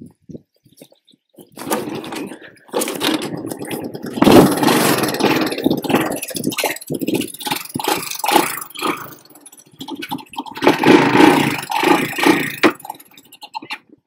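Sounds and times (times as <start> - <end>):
small engine running unevenly: 1.4 - 13.8.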